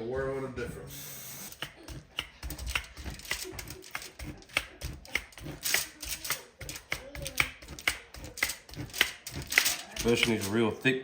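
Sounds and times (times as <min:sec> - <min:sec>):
meat tenderizer clicks and squelches: 0:01.5 - 0:10.5.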